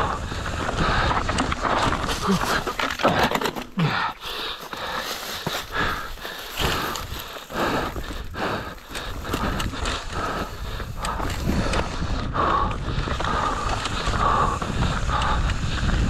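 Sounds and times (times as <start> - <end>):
wind rumbling on microphone: 0.0 - 3.2, 4.8 - 16.0
mountain bike clattering over rocks: 0.0 - 16.0.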